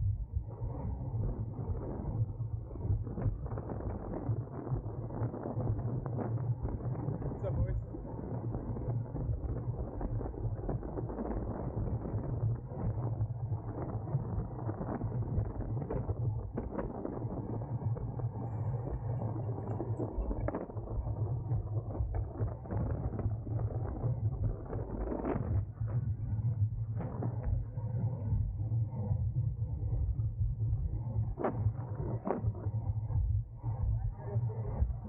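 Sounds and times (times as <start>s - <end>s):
bicycle rolling rumble: 0.0s - 28.6s.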